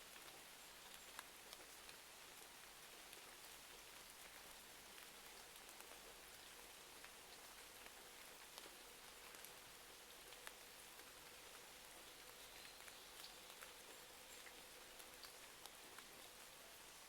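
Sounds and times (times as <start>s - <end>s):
faint rain hiss: 0.0s - 17.0s.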